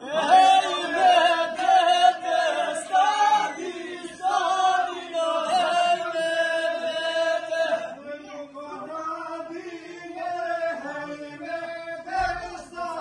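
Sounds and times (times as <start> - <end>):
voices singing folk song: 0.0 - 13.0.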